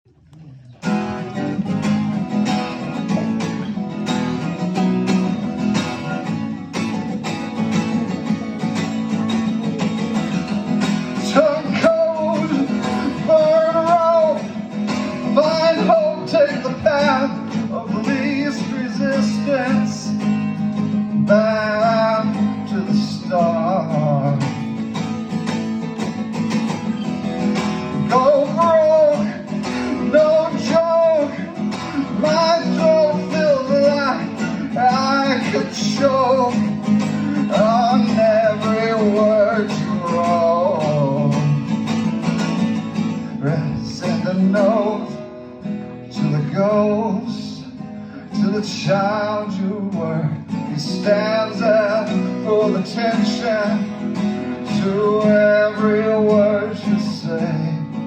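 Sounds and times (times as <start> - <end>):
wordless sung melody: 0.4 - 58.0
acoustic guitar strumming: 0.7 - 58.0.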